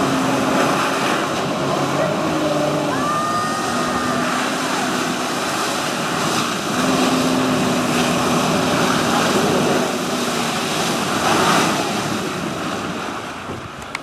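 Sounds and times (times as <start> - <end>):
water jets rushing spray: 0.0 - 13.4
watercraft engine running hard: 0.0 - 14.0.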